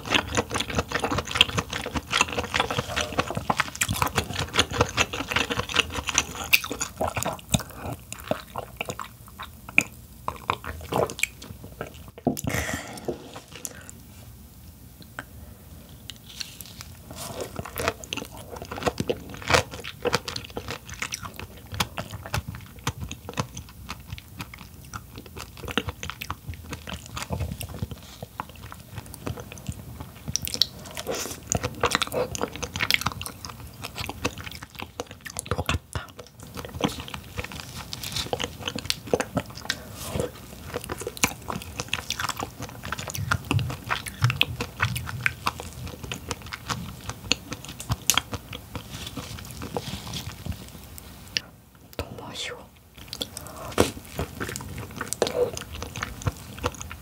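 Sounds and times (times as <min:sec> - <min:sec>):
crab chewing and crackling: 0:00.0 - 0:14.0, 0:15.9 - 0:57.0.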